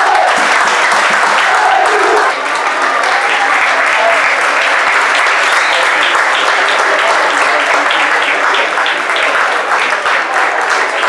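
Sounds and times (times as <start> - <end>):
spectators applauding: 0.0 - 11.0.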